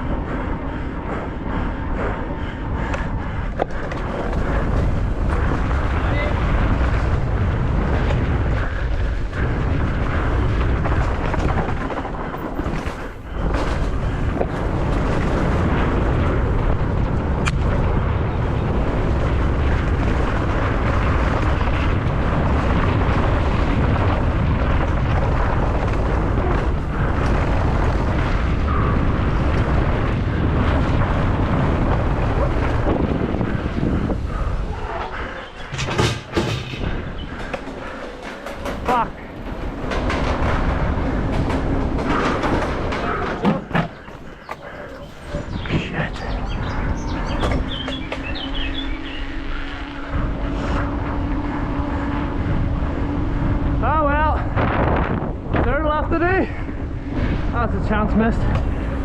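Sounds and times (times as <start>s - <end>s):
mountain bike riding fast: 0.0s - 59.0s
wind buffeting the microphone: 0.0s - 59.0s.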